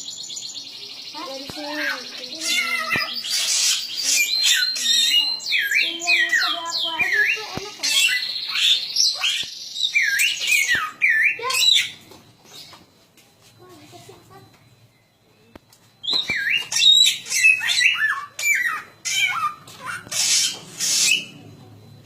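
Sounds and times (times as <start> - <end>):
bird singing chirps and whistles: 0.0 - 12.8, 14.9 - 21.5.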